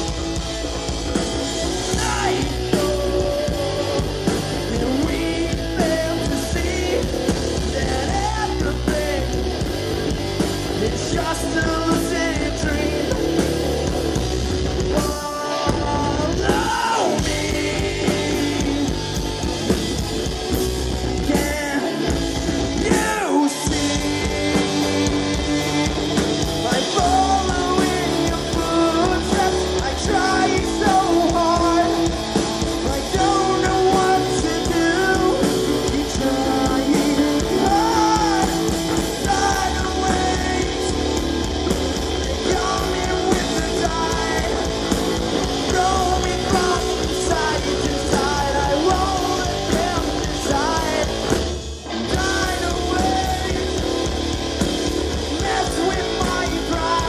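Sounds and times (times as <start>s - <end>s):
distorted electric guitar: 0.0s - 57.0s
drum kit: 0.0s - 57.0s
electric bass: 0.0s - 57.0s
man singing: 1.2s - 14.2s, 14.8s - 20.0s, 21.1s - 54.2s, 55.1s - 57.0s.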